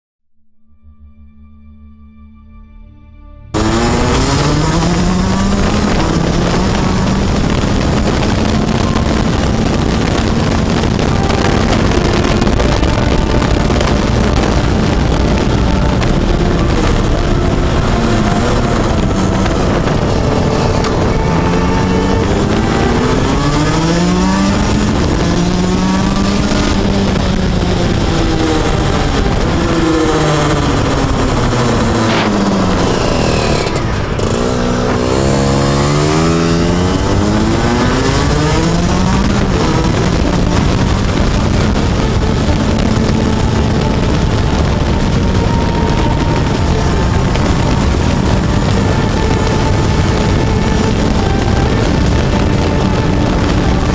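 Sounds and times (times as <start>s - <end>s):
kart engine revving: 3.5s - 53.9s.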